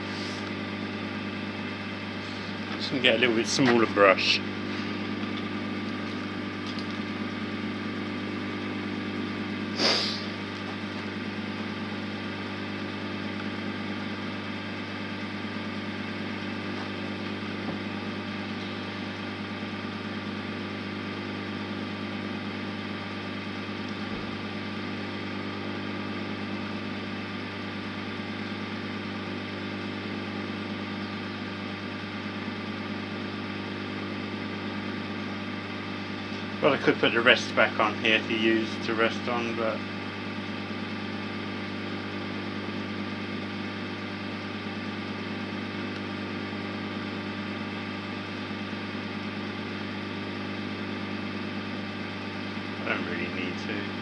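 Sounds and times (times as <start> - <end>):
wood lathe motor humming: 0.0 - 54.0.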